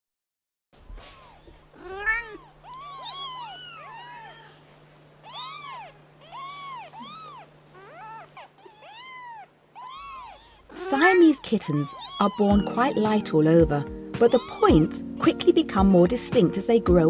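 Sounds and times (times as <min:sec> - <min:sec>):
kittens mewing: 0:00.9 - 0:15.4.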